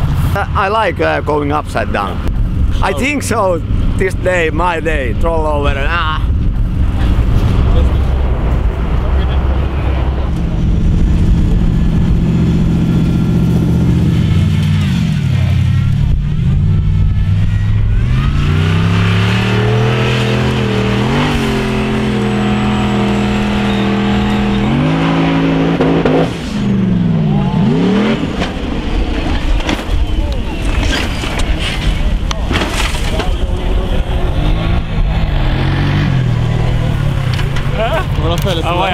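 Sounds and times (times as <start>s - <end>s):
buggy engine revving hard: 2.6s - 30.2s, 33.2s - 38.9s.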